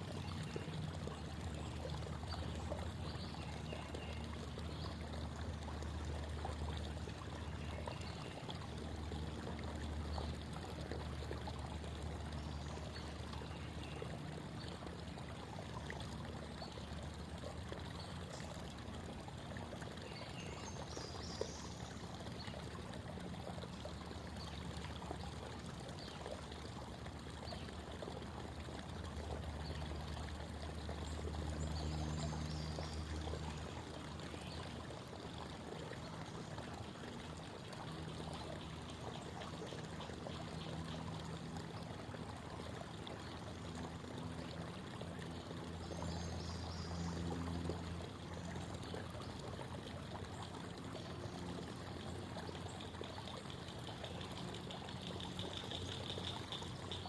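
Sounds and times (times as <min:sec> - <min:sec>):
creek water babbling: 0:00.0 - 0:57.0.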